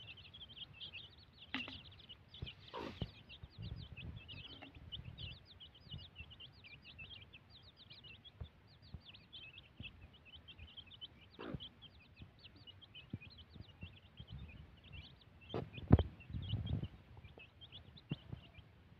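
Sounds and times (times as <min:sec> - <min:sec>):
beaks pecking grains: 0:00.0 - 0:18.6
chicks peeping: 0:00.0 - 0:18.9.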